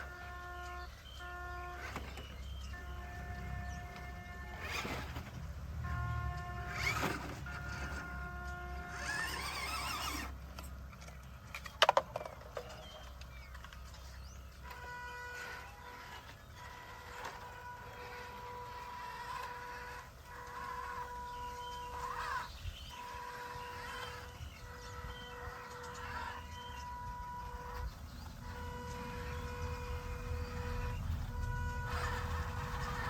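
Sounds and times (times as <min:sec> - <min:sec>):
electric motor whining: 0:00.0 - 0:11.6, 0:12.6 - 0:33.0.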